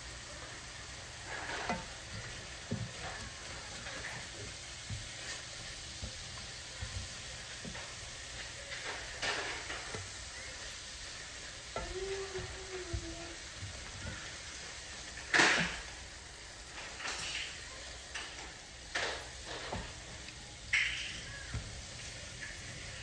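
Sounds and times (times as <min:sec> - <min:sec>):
chicken sizzling in a pan: 0:00.0 - 0:23.0
spoon scraping a pan: 0:00.6 - 0:23.0.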